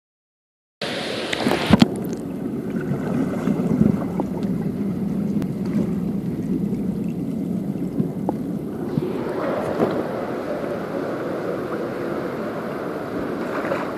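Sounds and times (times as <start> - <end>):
water splashes: 0.8 - 13.9
underwater rumble of moving water: 1.3 - 13.9.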